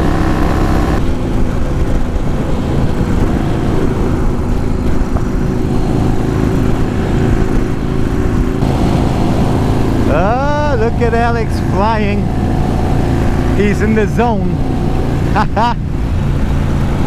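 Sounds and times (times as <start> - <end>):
motorcycle engine at speed: 0.0 - 17.0
wind rushing over microphone: 0.0 - 17.0.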